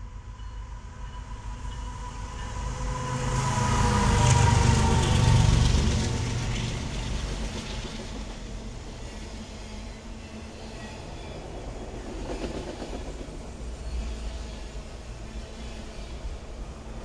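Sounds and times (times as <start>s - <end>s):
diesel locomotive engines rumbling: 0.0s - 17.0s
locomotive whine: 0.0s - 17.0s
train wheels on rails: 0.3s - 17.0s.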